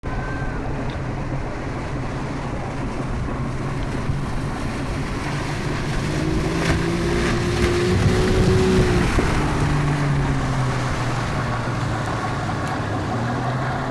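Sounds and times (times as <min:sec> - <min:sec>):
outboard motor running: 0:00.0 - 0:13.9
water noise: 0:00.0 - 0:13.9
wind noise: 0:00.0 - 0:13.9.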